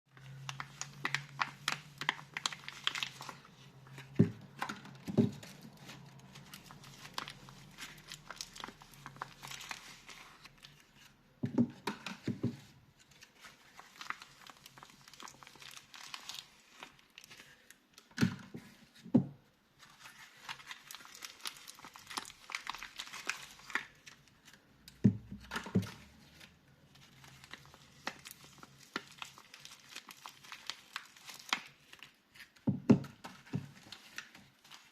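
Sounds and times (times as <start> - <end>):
packaging crinkling and tearing: 0.2 - 12.4, 13.0 - 18.5, 19.7 - 34.9.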